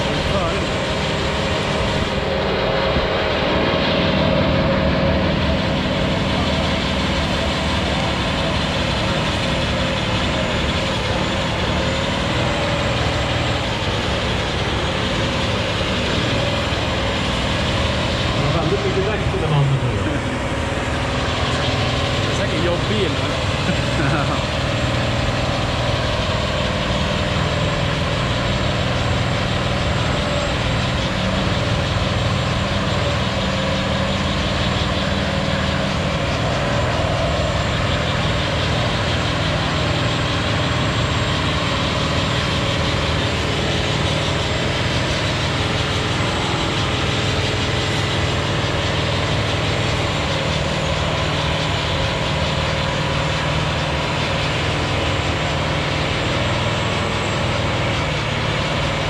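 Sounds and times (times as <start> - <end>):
truck diesel engine running: 0.0 - 59.0.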